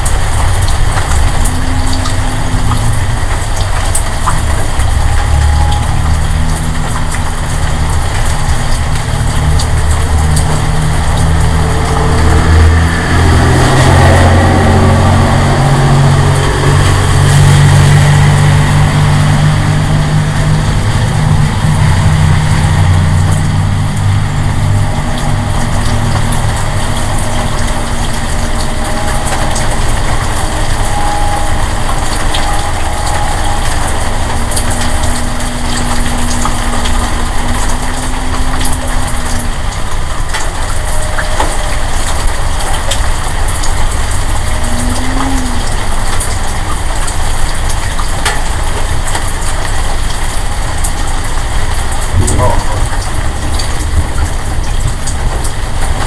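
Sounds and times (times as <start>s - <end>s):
low droning engine-like hum: 0.0s - 56.0s.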